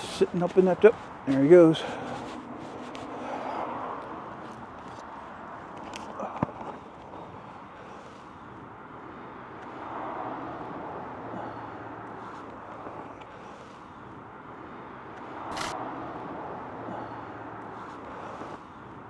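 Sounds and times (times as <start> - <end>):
cars passing by: 0.0 - 19.0.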